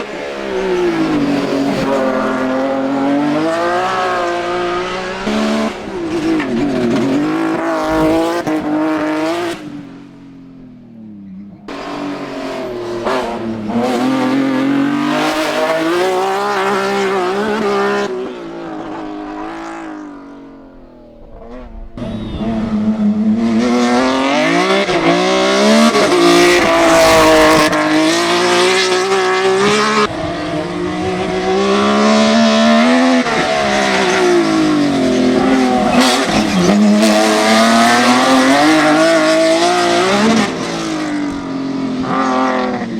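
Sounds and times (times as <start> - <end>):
race car engine revving: 0.0 - 10.2, 11.4 - 42.9.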